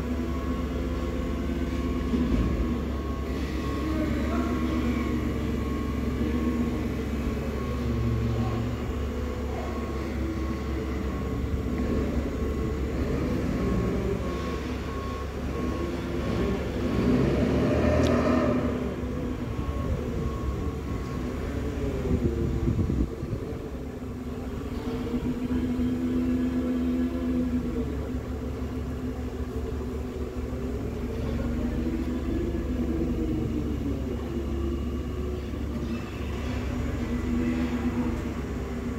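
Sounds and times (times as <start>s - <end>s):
tumbler machine humming: 0.0s - 38.9s.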